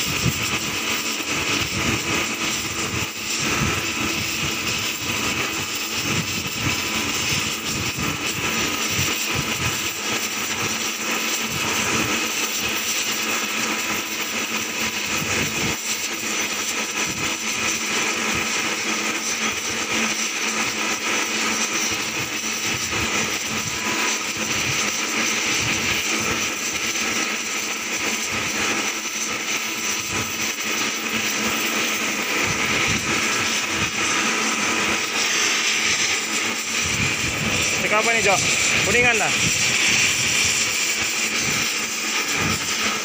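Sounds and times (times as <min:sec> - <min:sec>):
welding torch flame hissing: 0:00.0 - 0:43.0.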